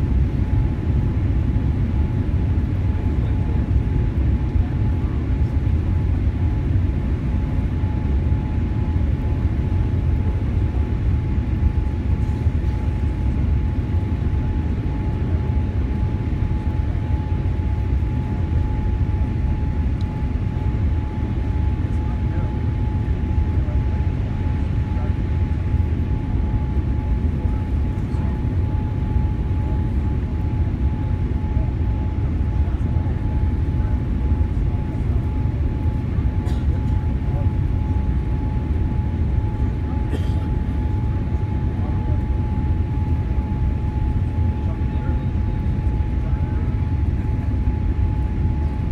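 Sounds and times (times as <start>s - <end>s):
airliner cabin rumble: 0.0s - 48.9s.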